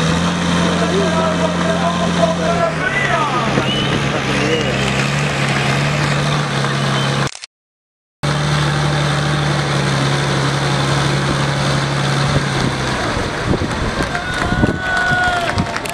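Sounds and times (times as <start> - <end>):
tractor engine under load: 0.0 - 7.5, 8.2 - 15.9.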